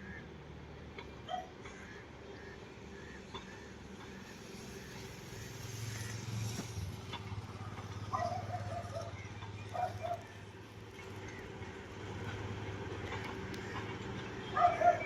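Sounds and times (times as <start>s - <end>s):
vehicle humming: 2.3s - 15.0s.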